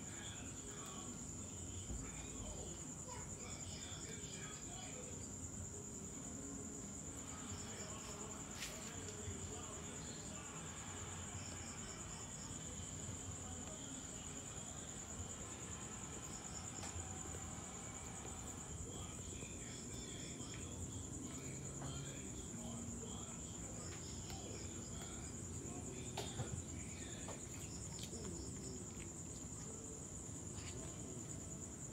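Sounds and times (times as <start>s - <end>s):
crickets trilling: 0.0s - 31.9s
pulsed cricket chirps: 0.0s - 31.9s.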